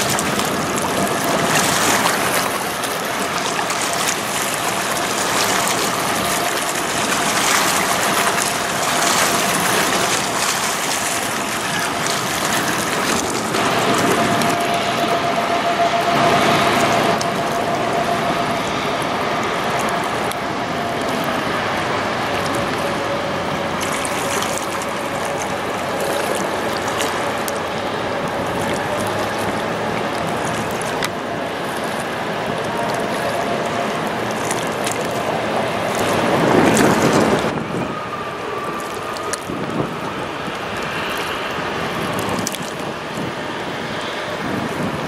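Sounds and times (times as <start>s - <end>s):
boat engine humming faintly: 0.0s - 45.0s
river water rushing: 0.0s - 45.0s
wind: 0.0s - 45.0s.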